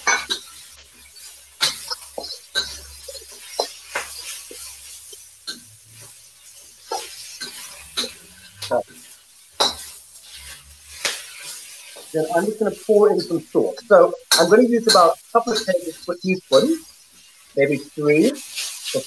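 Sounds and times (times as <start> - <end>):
metal spatulas scraping woks: 0.0 - 16.8, 18.3 - 19.0.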